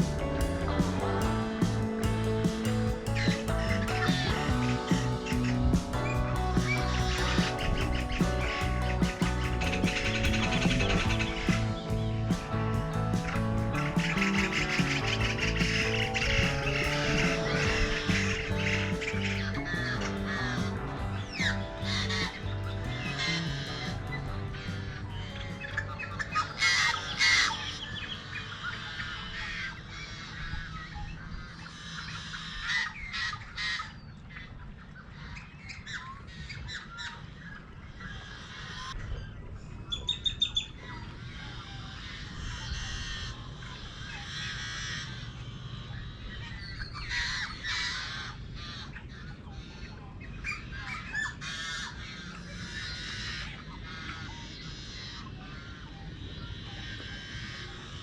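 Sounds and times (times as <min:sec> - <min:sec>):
marsh birds squawking and chirping: 0:00.0 - 0:58.0.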